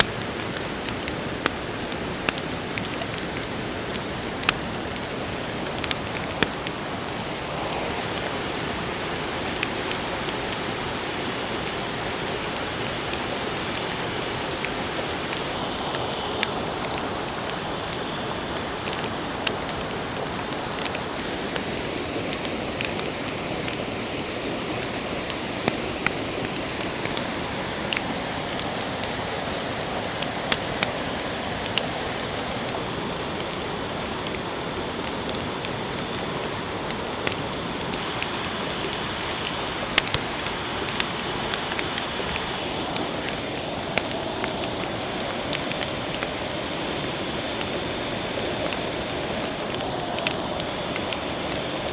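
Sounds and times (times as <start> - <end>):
rushing water: 0.0 - 51.9
sharp pops and crackles: 0.0 - 51.9.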